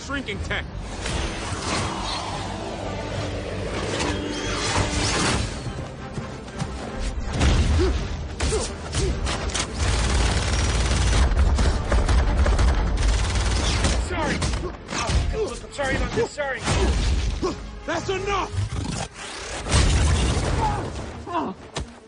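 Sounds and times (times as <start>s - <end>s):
film score music: 0.0s - 22.0s.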